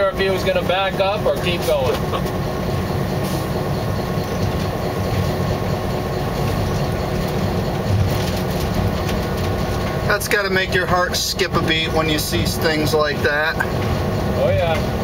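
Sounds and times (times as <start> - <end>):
diesel engine drone: 0.0 - 15.0
train rolling on rails: 0.0 - 15.0.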